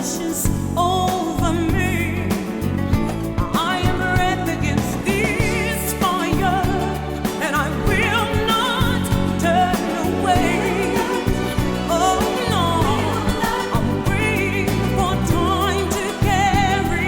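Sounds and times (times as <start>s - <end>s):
person singing with vibrato: 0.0s - 17.0s
bass line and beat: 0.5s - 17.0s.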